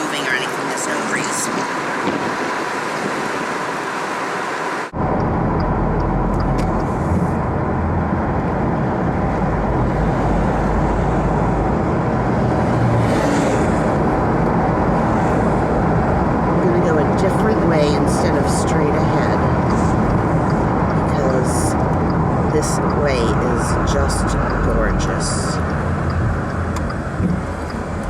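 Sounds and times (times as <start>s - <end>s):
road noise: 0.0s - 28.0s
wind buffeting: 1.1s - 28.0s.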